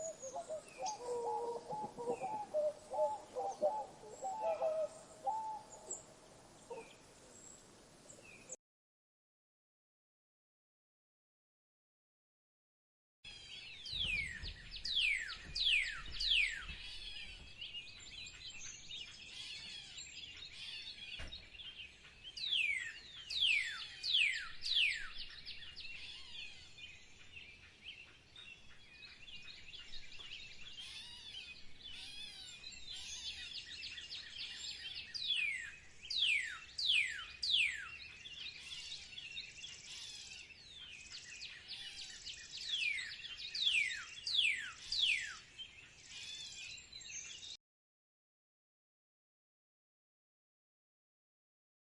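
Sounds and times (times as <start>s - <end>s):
birds chirping and twittering: 0.0s - 8.6s, 13.3s - 47.6s.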